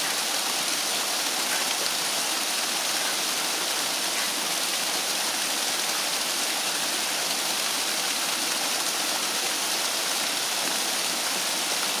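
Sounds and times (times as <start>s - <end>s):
small waterfall pouring: 0.0s - 12.0s.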